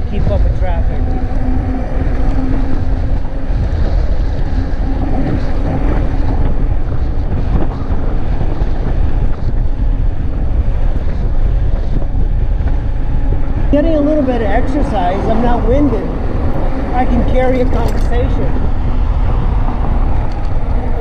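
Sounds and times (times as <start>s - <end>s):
low rumble: 0.0s - 21.0s
wind buffeting microphone: 0.0s - 21.0s.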